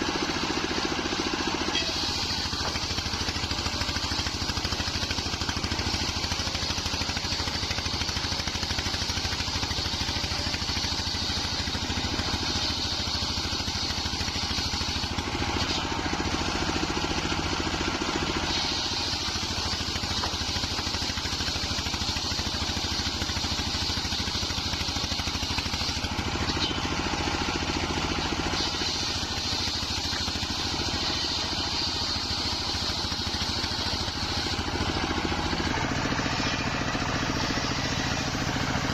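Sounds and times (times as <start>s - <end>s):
circular saw cutting wood: 0.0s - 38.9s.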